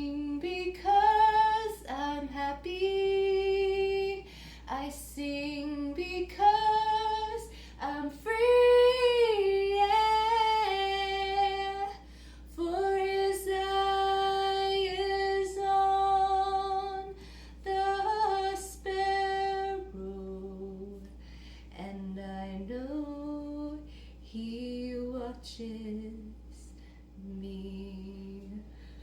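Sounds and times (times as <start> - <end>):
woman singing unaccompanied: 0.0 - 26.6, 27.2 - 28.7.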